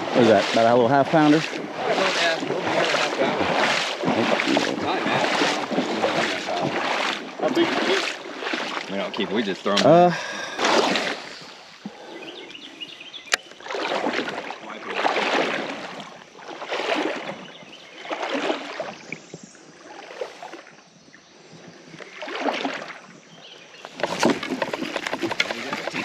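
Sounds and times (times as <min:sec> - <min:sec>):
legs wading through water: 0:00.0 - 0:26.0.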